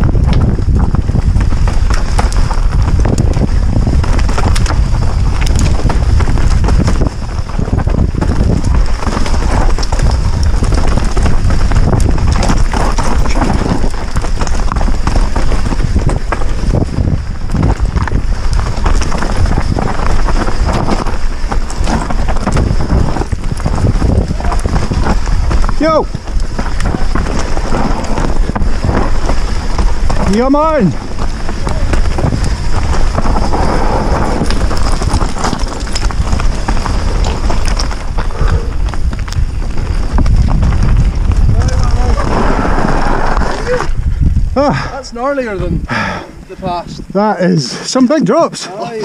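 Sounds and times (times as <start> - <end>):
bike rattling with sharp knocks: 0.0 - 44.6
wind rumble on microphone: 0.0 - 47.8
bike tyres crunching over rocks: 0.0 - 49.0.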